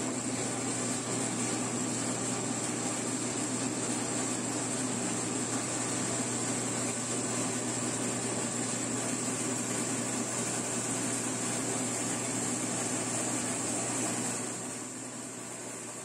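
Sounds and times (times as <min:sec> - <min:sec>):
motor-driven grinding mill: 0:00.0 - 0:16.0.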